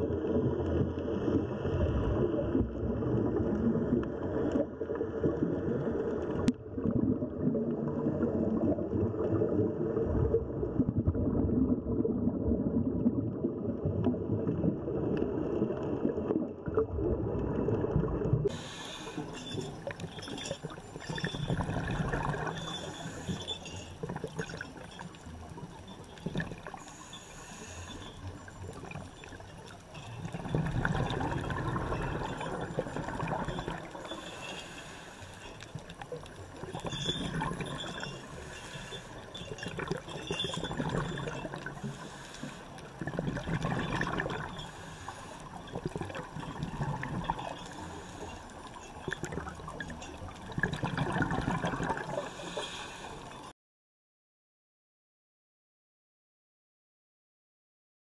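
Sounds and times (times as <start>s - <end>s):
underwater bubbling and swishing: 0.0s - 53.5s.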